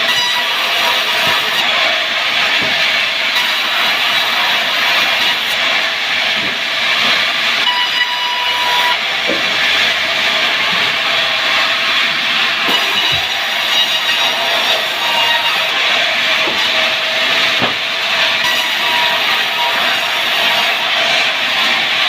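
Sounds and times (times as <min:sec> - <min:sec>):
sawmill saw cutting timber: 0:00.0 - 0:22.0.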